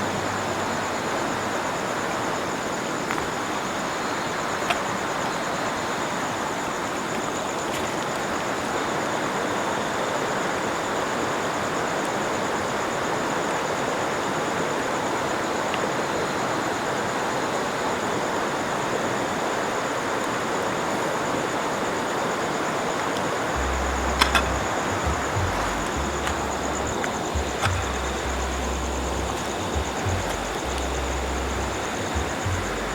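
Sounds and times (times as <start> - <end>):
high insect drone: 0.0 - 32.9
river water rushing: 0.0 - 32.9.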